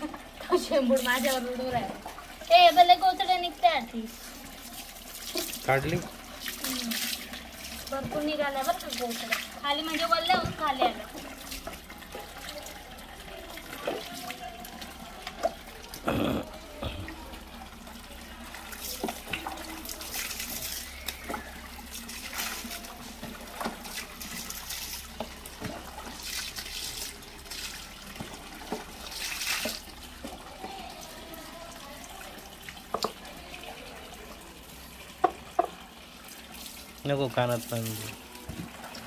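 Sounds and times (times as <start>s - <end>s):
water splashing: 0.0s - 39.0s.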